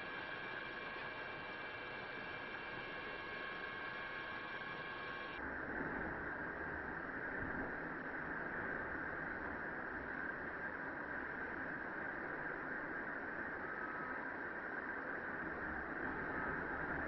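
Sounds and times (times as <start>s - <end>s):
faint steady tones: 0.0s - 17.0s
static-like hiss: 0.0s - 17.0s.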